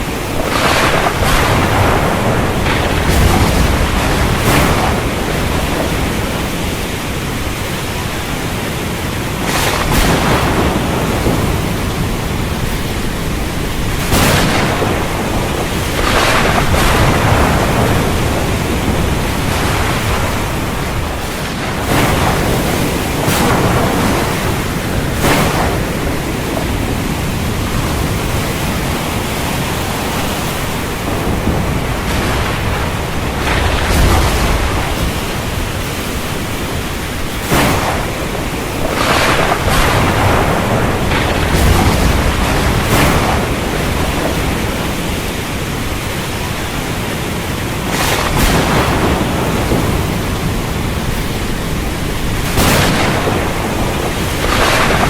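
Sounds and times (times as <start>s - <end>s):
surf: 0.0s - 55.0s
wind rushing: 0.0s - 55.0s.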